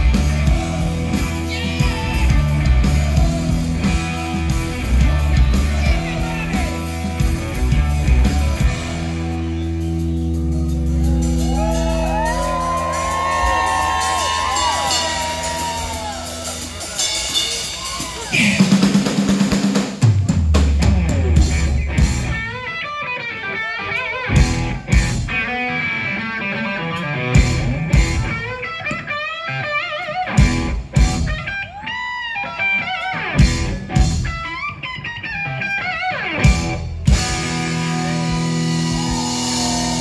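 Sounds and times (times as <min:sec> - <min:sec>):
electric guitar lead: 0:00.0 - 0:19.1, 0:20.7 - 0:40.0
drums: 0:00.0 - 0:40.0.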